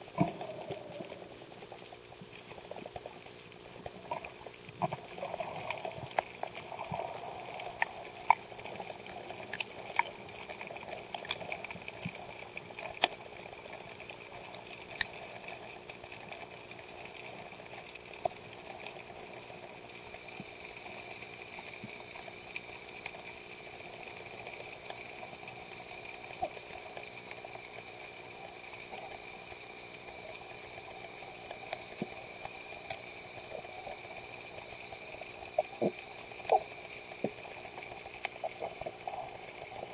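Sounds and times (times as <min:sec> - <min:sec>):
small underwater clicks: 0:00.0 - 0:39.9
underwater hiss: 0:00.0 - 0:39.9.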